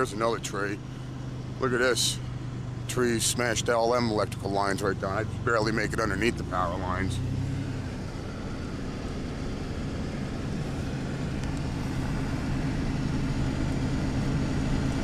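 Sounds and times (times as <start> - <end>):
road noise: 0.0 - 15.0
truck engine running: 0.0 - 15.0.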